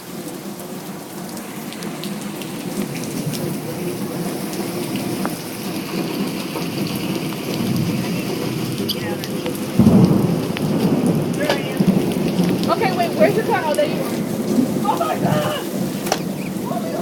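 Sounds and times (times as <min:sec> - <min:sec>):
heavy rain pouring: 0:00.0 - 0:17.0
raindrops ticking on a surface: 0:00.0 - 0:17.0.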